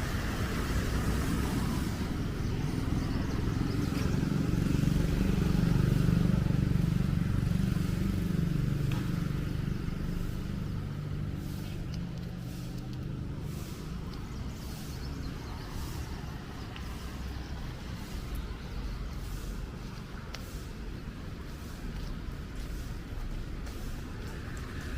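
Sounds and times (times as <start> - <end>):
low traffic hum: 0.0 - 24.9
vehicle engine rumble passing: 0.0 - 24.9
footsteps on pavement: 0.2 - 24.9.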